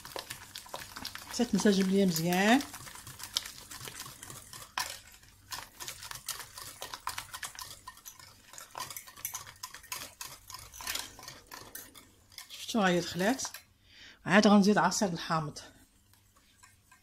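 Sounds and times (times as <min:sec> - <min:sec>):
utensil scraping saucepan: 0:00.0 - 0:13.7, 0:15.8 - 0:17.0.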